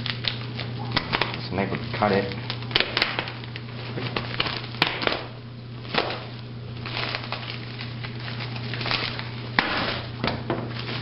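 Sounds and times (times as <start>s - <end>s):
plastic mailer crinkling: 0.0s - 11.0s.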